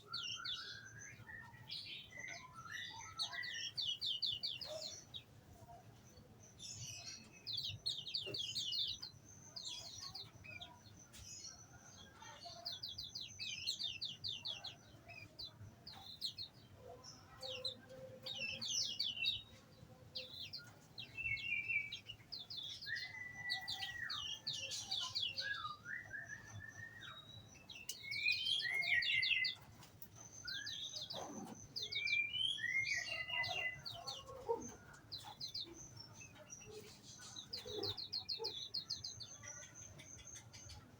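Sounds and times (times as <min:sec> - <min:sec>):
songbirds trilling: 0:00.0 - 0:40.9.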